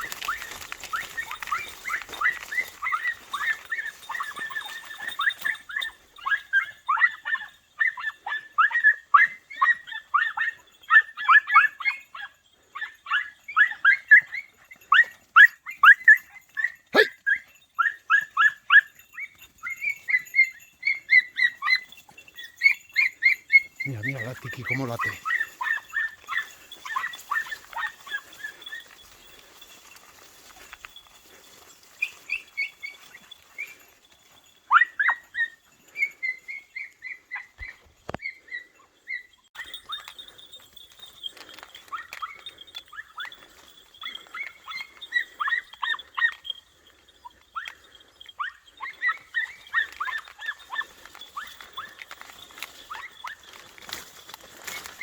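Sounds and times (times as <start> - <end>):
puppies yelping: 0.0 - 55.0.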